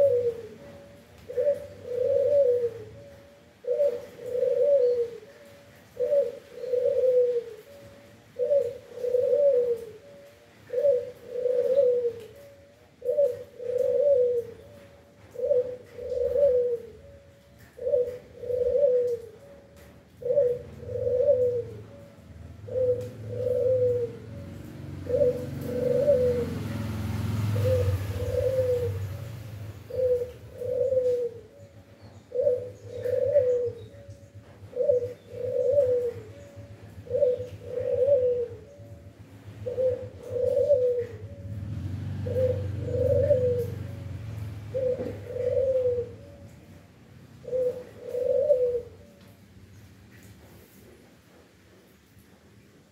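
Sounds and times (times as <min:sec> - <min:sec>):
dove cooing: 0:00.0 - 0:49.4.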